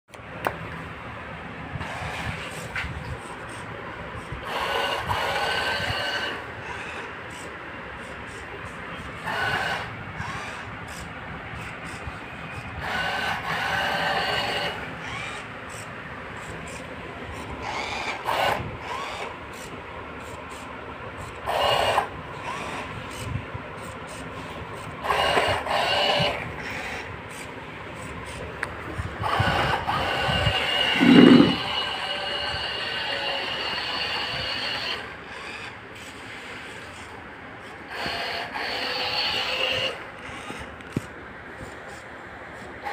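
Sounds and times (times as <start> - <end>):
small gear motors whining: 1.8 - 42.9.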